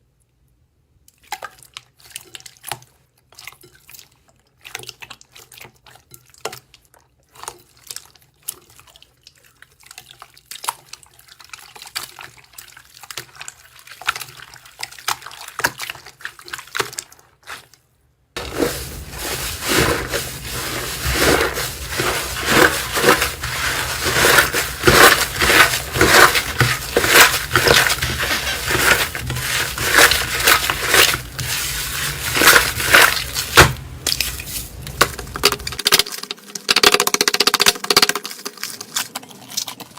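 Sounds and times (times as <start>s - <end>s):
slime squelching by hand: 1.1s - 17.8s, 18.4s - 36.9s, 37.8s - 39.9s.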